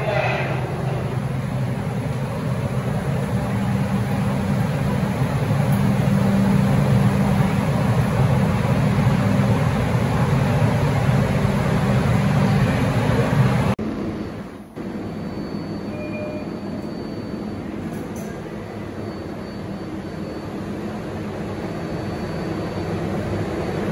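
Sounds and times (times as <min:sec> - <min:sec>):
subway train rumble and hum: 0:00.0 - 0:23.9.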